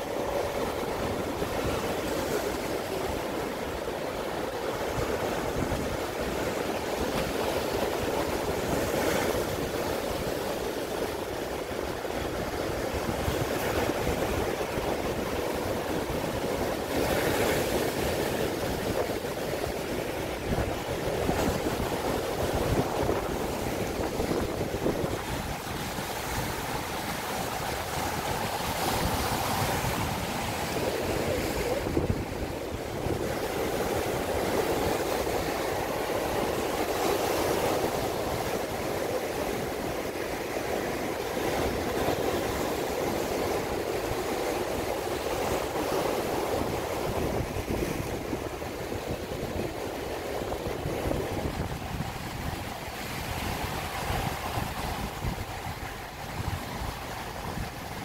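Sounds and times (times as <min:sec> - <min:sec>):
sea waves breaking on rocks: 0:00.0 - 0:58.0.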